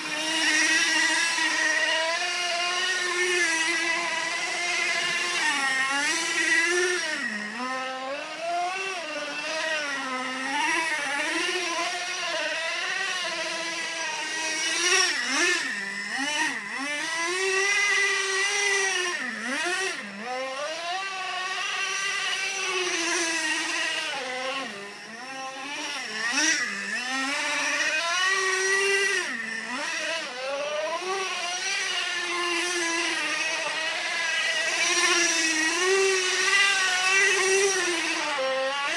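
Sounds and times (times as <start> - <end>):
rc car motor revving: 0.0 - 38.9.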